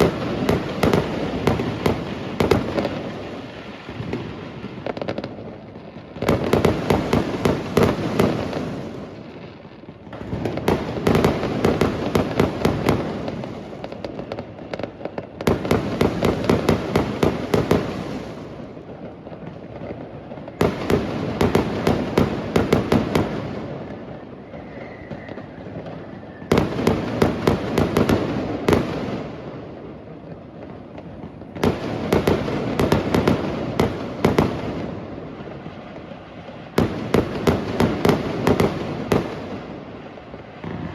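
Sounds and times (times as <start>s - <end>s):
fireworks cracks and bangs: 0.0s - 40.9s.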